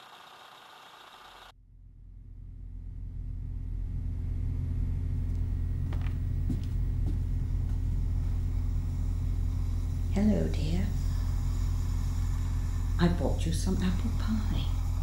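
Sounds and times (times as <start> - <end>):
low rumbling hum with drone: 1.3 - 15.0.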